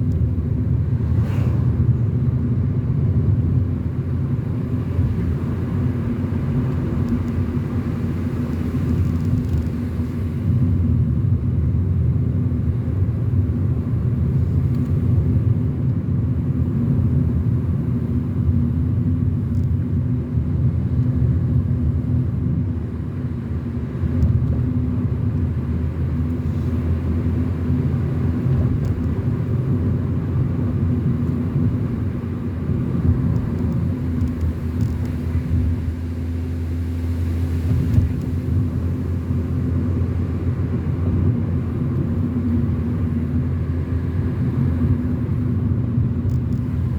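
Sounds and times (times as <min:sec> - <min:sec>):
car engine and tyres rumbling: 0:00.0 - 0:46.9.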